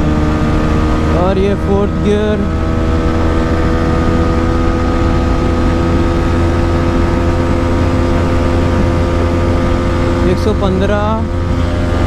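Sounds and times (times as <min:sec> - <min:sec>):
motorcycle engine at high revs: 0:00.0 - 0:12.0
wind rumble on microphone: 0:00.0 - 0:12.0.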